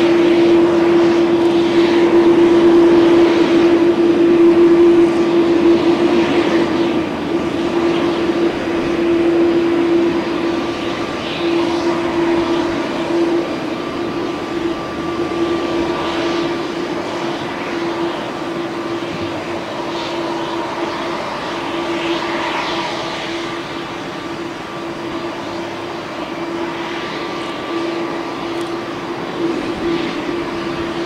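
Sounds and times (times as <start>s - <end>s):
jet engines humming: 0.0s - 31.0s.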